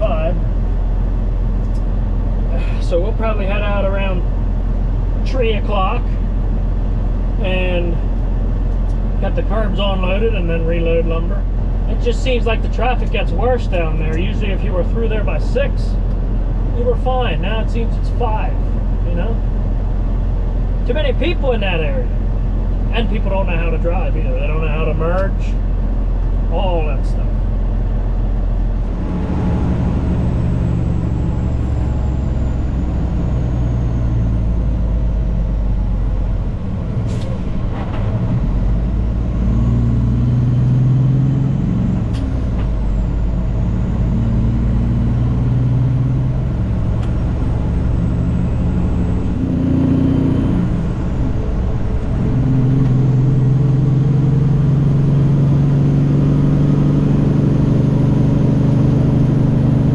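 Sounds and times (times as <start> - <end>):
diesel truck engine from cab: 0.0 - 59.9.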